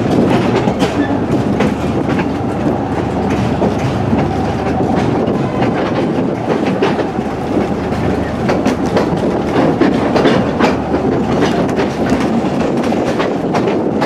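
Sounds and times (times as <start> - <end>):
railroad car rumbling: 0.0 - 14.0
wheels clicking over rail joints: 0.0 - 14.0.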